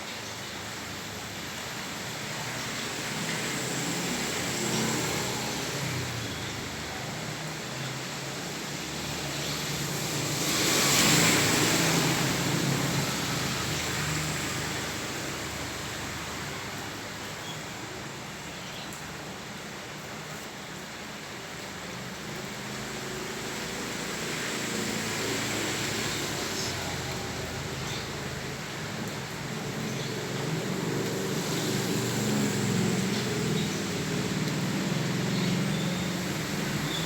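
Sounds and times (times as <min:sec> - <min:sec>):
rain hiss on flooded street: 0:00.0 - 0:37.0
tyres swishing through water: 0:00.0 - 0:37.0.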